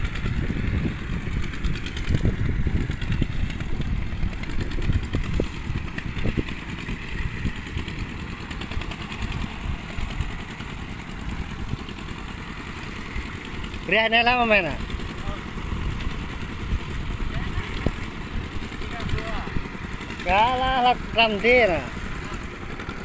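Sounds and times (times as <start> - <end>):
walking tractor engine rumbling: 0.0 - 23.0.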